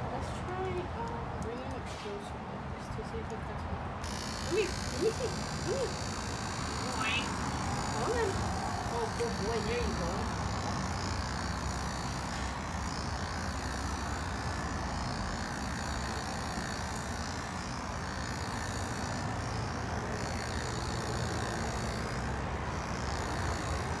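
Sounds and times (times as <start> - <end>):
electric hair clippers buzzing: 3.9 - 24.0.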